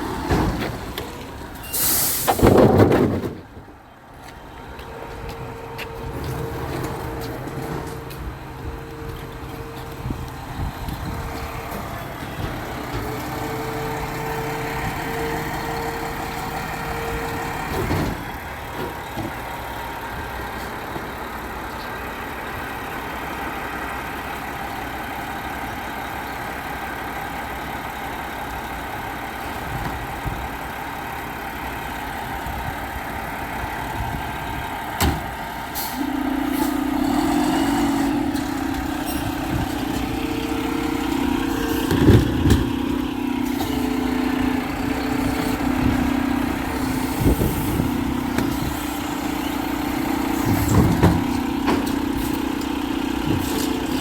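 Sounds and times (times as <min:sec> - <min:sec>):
garbage truck engine running: 0:00.0 - 0:54.0.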